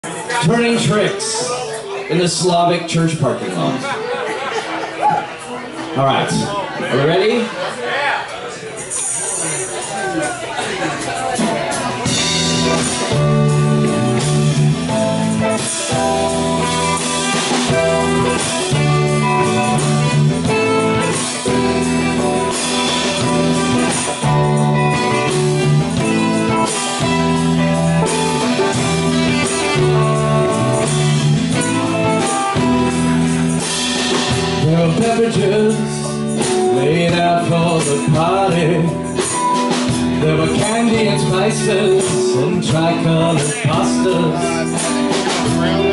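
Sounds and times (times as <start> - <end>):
keyboard: 0.0 - 45.9
drum kit: 8.9 - 45.9
electric guitar: 9.0 - 45.9.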